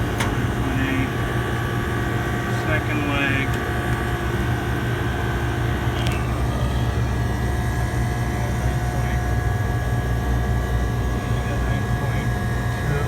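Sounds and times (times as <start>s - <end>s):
refrigeration unit humming: 0.0s - 13.0s.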